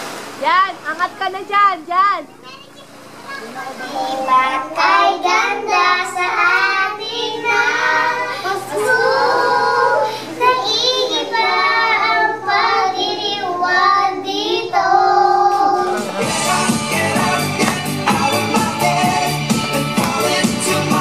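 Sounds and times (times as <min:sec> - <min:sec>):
children singing: 0:03.4 - 0:21.0.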